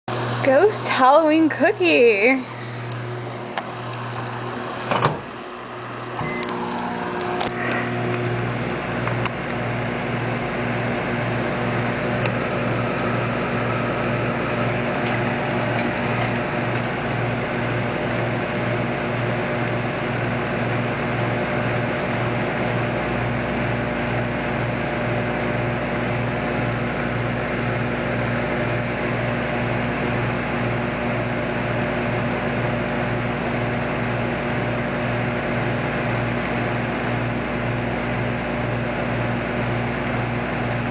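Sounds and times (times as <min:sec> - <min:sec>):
microwave humming: 0:00.1 - 0:40.9.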